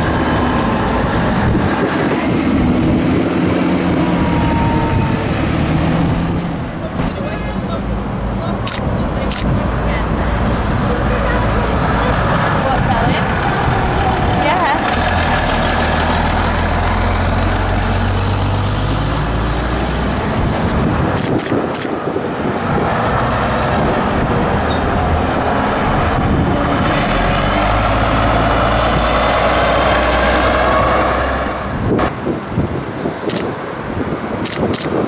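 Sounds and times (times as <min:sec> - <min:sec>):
bus engines passing: 0:00.0 - 0:35.0.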